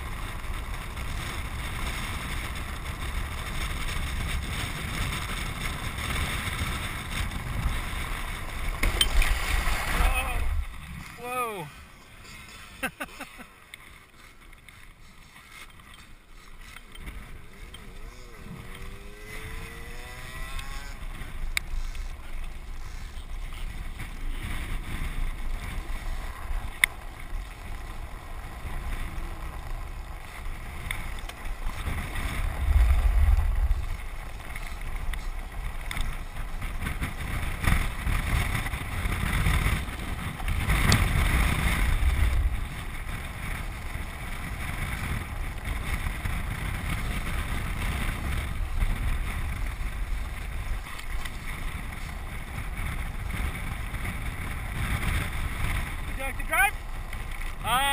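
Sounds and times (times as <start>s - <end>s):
land sailer rolling rumble: 0.0s - 57.9s
wind buffeting microphone: 0.0s - 57.9s.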